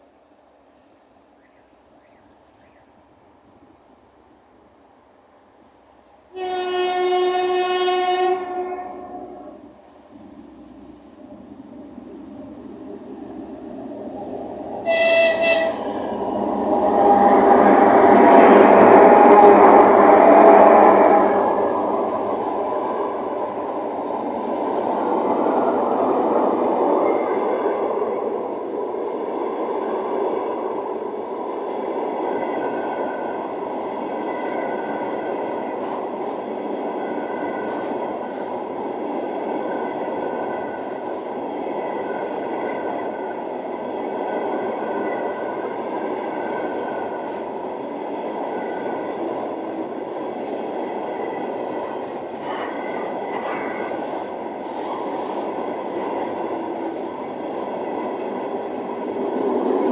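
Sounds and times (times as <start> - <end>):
train wheels rumbling on track: 5.8 - 59.9.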